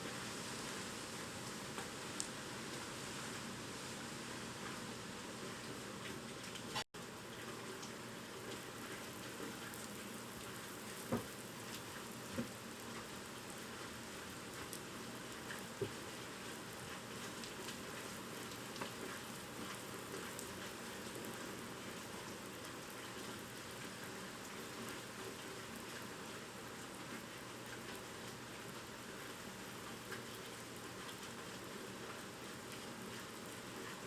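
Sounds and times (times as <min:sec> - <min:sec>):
rain falling steadily: 0:00.0 - 0:34.0.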